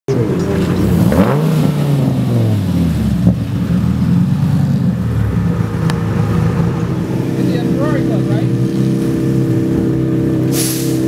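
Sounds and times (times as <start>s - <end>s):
car engine revving: 0.1s - 11.0s.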